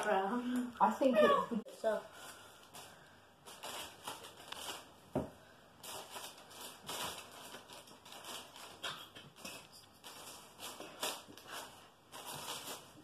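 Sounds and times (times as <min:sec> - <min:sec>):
paper bag rustling and crinkling: 0:01.7 - 0:13.0.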